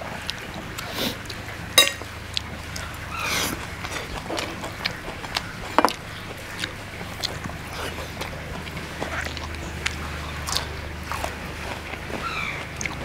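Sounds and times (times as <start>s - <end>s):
low steady hum: 0.0s - 13.0s
chewing clicks and crunches: 0.2s - 1.4s, 2.3s - 13.0s.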